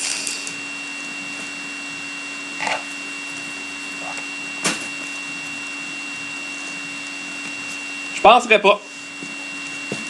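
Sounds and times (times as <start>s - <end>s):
electrical hum with high whine: 0.0s - 10.0s.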